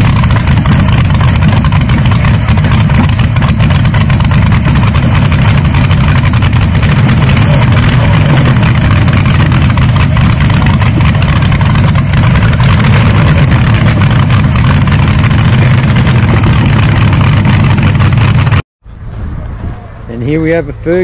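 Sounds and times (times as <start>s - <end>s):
tractor engine running loud: 0.0s - 18.6s.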